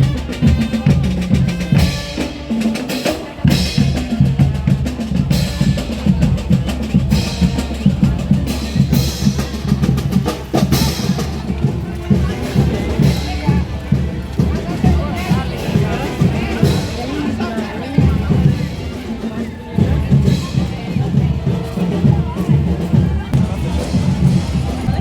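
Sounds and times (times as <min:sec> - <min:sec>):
marching band playing: 0:00.0 - 0:25.0
snare and bass drums: 0:00.0 - 0:25.0.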